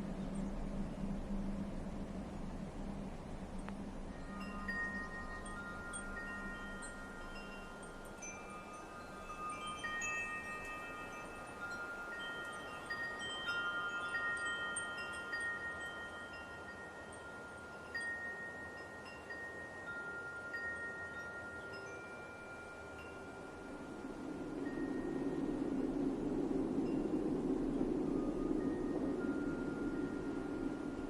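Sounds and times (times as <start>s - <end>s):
light wind hiss: 0.0s - 31.0s
wind chimes ringing: 4.1s - 31.0s.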